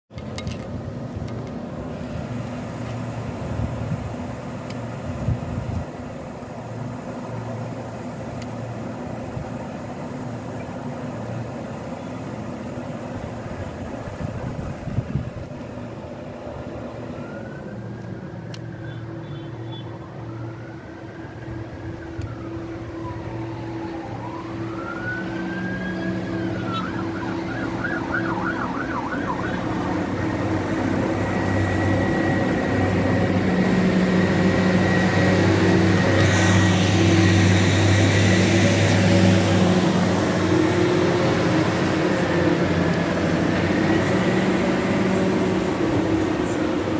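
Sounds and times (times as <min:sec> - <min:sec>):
low engine hum: 0:00.1 - 0:46.9
emergency vehicle siren: 0:00.5 - 0:46.9.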